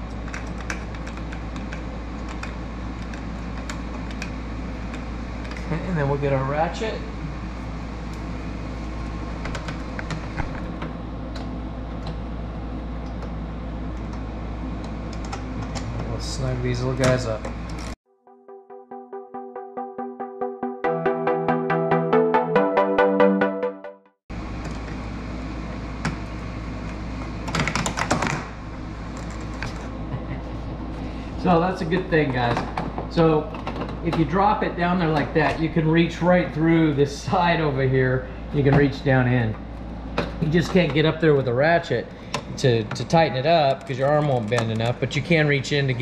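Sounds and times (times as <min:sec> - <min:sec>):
steady low hum: 0:00.0 - 0:18.0, 0:24.3 - 0:46.0.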